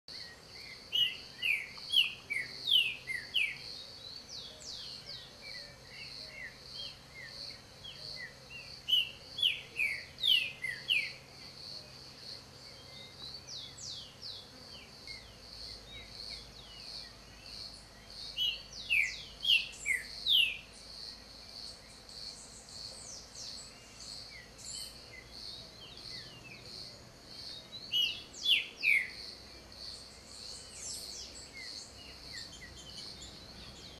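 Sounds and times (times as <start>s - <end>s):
pulsing insect trill: 0.1s - 33.9s.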